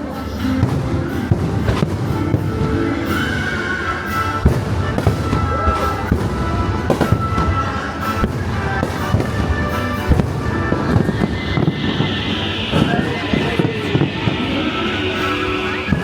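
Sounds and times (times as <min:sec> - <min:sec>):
music: 0:00.0 - 0:16.0
fireworks bangs: 0:00.2 - 0:16.0.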